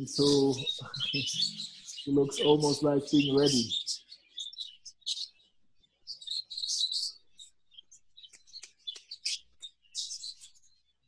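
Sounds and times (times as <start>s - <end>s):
budgerigars chirping: 0.0s - 10.5s.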